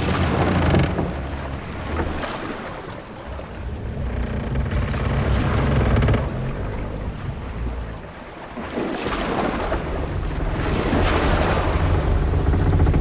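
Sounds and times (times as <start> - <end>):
deep low rumble: 0.0 - 2.3, 3.2 - 8.3, 9.5 - 13.0
waves washing against hull: 0.0 - 13.0
wind: 0.0 - 13.0.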